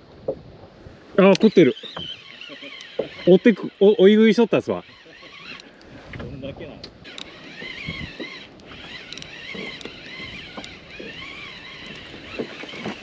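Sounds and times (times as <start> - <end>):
fishing reel gears whirring: 1.2 - 13.0.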